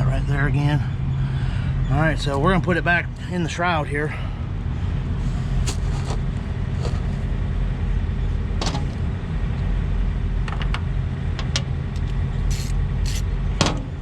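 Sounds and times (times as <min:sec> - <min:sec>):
diesel truck engine idling: 0:00.0 - 0:13.6.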